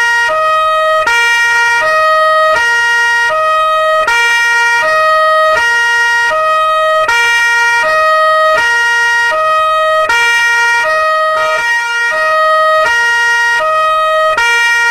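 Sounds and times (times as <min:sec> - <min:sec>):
two-tone police siren: 0:00.0 - 0:14.9.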